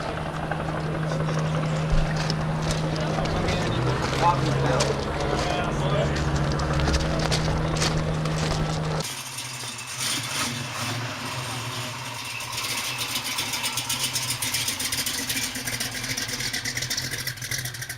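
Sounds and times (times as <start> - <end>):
truck engine idling: 0.0 - 17.9.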